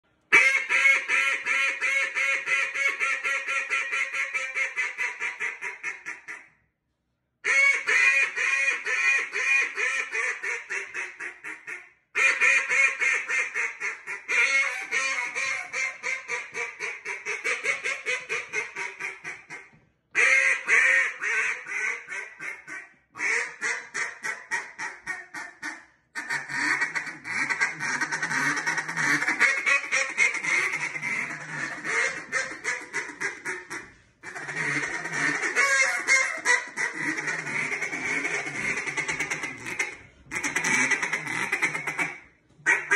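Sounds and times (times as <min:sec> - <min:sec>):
duck call quacks: 0:00.3 - 0:06.5, 0:07.4 - 0:42.9.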